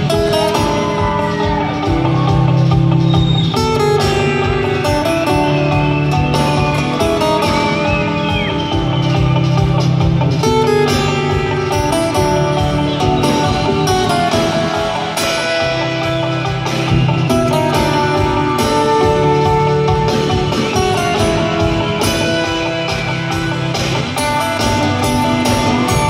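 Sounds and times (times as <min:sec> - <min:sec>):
lead guitar: 0:00.0 - 0:26.0
rock band playing: 0:00.0 - 0:26.0.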